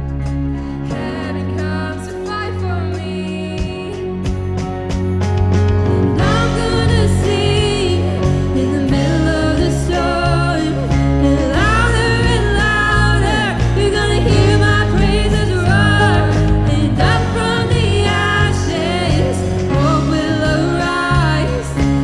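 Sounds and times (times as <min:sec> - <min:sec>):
instrumental accompaniment: 0:00.0 - 0:22.0
person singing: 0:00.6 - 0:04.4, 0:05.9 - 0:22.0.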